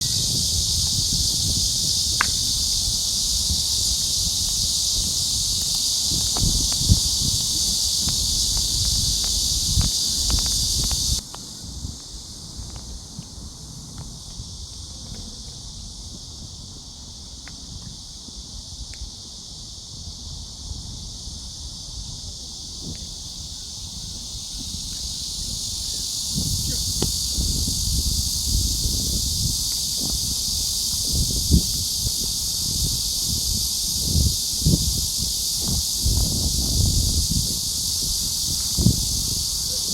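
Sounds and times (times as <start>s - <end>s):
high-pitched hiss: 0.0s - 39.9s
high-pitched insect buzz: 0.0s - 39.9s
wind rumble on microphone: 0.0s - 39.9s.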